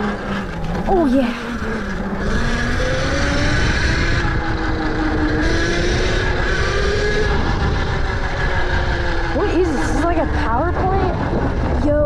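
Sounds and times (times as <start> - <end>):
electric motorbike motor whining: 0.0 - 12.0
wind and ground rumble: 0.0 - 12.0.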